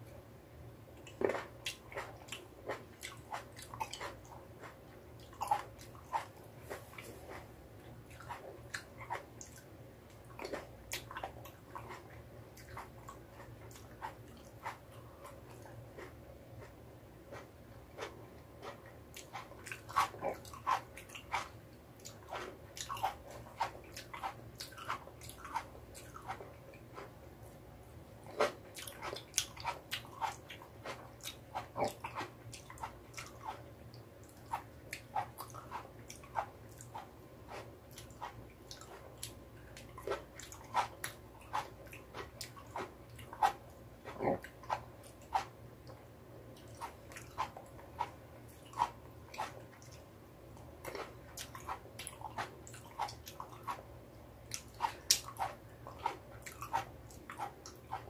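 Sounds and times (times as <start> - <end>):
tomatoes being chewed: 1.0 - 58.0.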